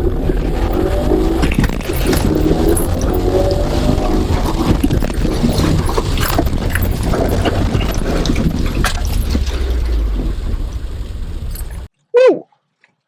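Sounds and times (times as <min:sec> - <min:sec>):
car engine drone: 0:00.0 - 0:11.9
heavy rain and spray on car: 0:00.0 - 0:11.9.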